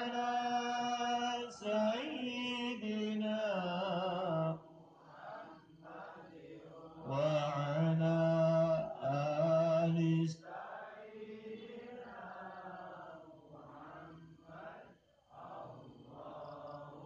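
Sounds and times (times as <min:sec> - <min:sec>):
devotional chanting: 0:00.0 - 0:17.0.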